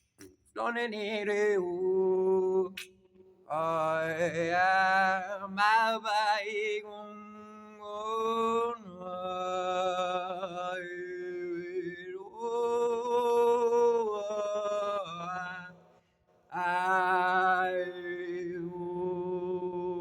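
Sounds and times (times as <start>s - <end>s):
person singing wordless chant: 0.6s - 2.8s, 3.5s - 15.8s, 16.5s - 20.0s.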